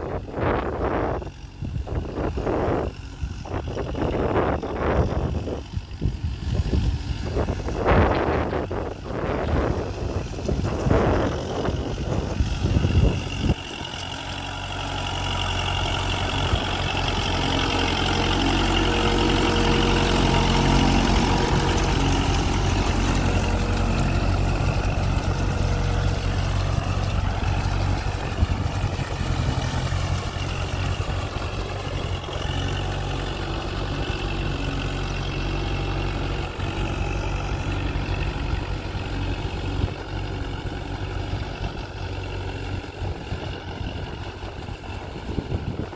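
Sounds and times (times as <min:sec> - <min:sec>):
rough rushes of noise: 0:00.0 - 0:45.9
tractor diesel engine running: 0:00.0 - 0:45.9.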